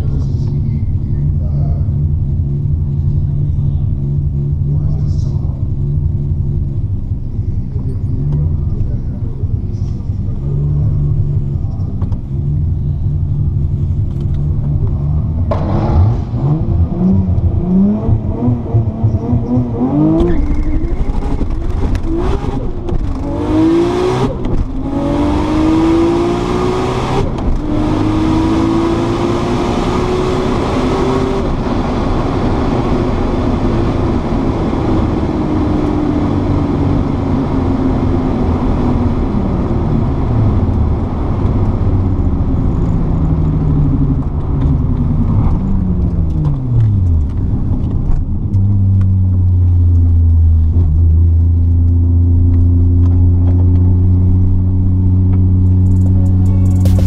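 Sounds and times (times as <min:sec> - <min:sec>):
car engine revving and accelerating: 0:08.0 - 0:57.0.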